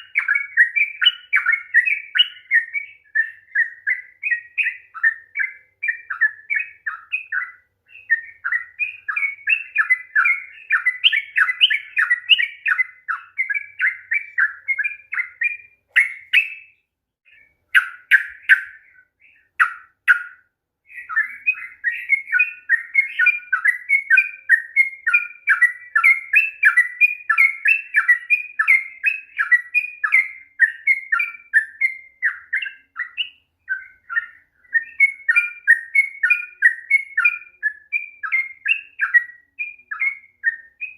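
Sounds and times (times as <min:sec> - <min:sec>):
bird singing chattering notes: 0:00.0 - 0:40.9.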